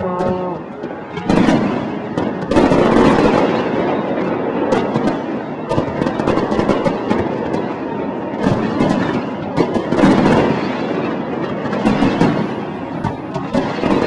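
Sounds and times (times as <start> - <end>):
fireworks booms and crackles: 0.0 - 14.0.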